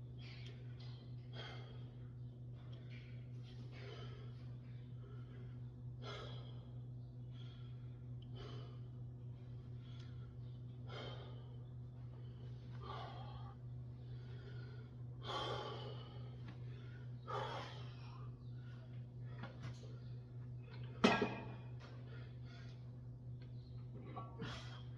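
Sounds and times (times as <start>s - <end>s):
man breathing hard: 0.2s - 21.0s, 21.6s - 23.0s.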